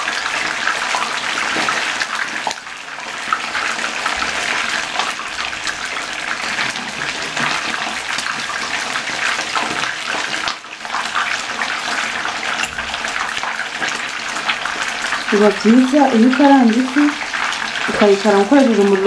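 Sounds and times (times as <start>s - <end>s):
fish frying in hot oil: 0.0s - 19.0s.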